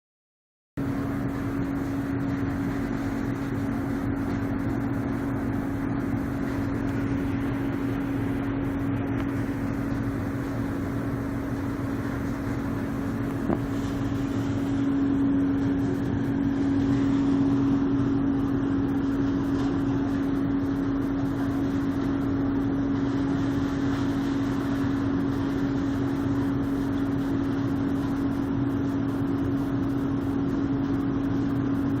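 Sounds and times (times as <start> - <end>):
loud mechanical drone: 0.8 - 32.0.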